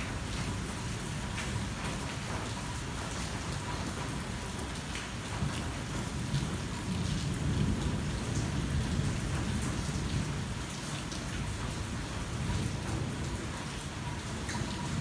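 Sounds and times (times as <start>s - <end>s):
rain on car roof: 0.0s - 15.0s.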